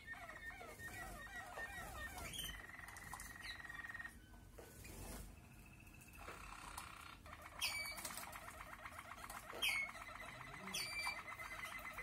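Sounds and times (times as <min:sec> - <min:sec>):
canary trilling: 0:00.0 - 0:12.0.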